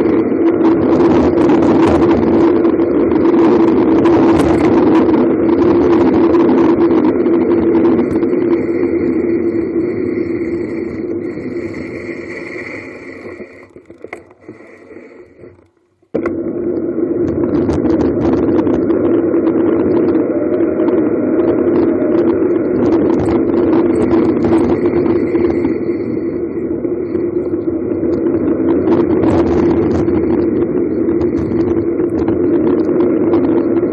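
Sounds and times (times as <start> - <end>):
wind roaring over microphone: 0.0 - 33.9.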